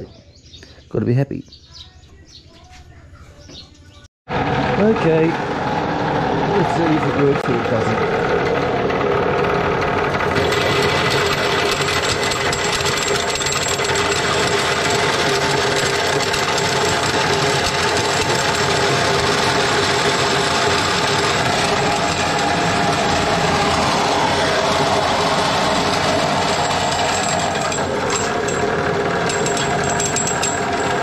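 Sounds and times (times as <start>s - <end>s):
corn grinder motor running: 4.3s - 31.0s.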